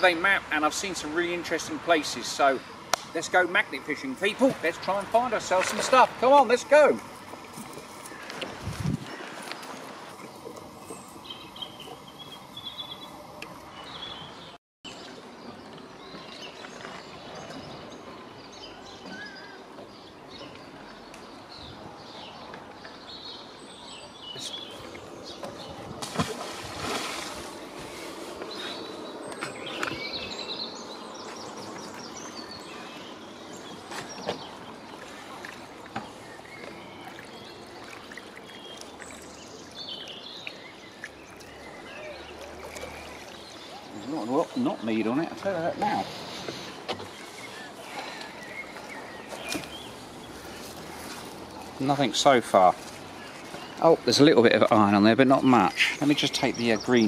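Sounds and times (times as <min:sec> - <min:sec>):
birds singing: 0:00.0 - 0:57.0
flowing river water: 0:00.0 - 0:57.0.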